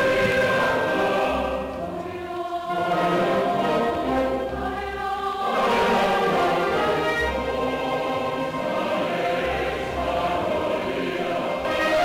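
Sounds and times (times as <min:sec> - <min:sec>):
choir singing long held notes: 0:00.0 - 0:12.0.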